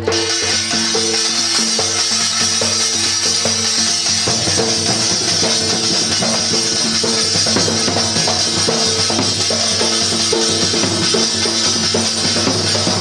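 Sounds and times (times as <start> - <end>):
drum beating fast rhythm: 0.0 - 13.0
metallic ringing of beaten plate: 0.0 - 13.0.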